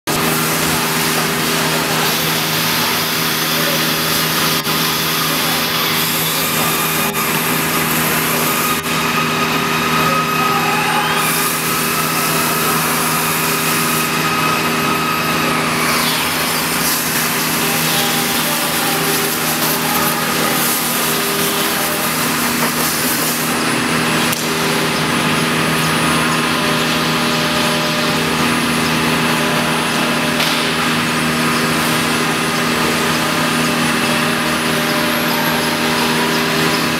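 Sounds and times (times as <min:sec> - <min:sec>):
machine hum: 0:00.0 - 0:36.9
spindle whine: 0:00.1 - 0:36.9.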